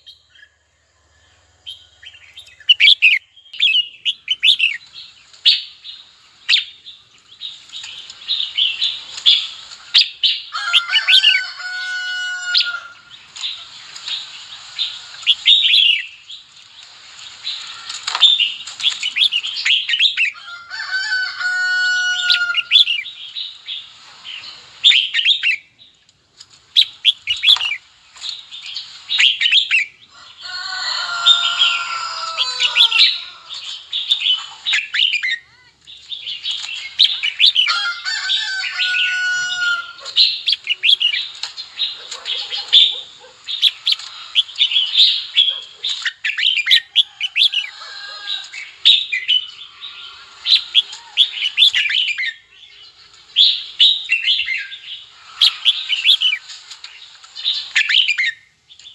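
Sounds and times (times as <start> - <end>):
harsh bird calls: 0.0 - 26.0, 26.6 - 58.9
birds chirping: 0.0 - 58.9.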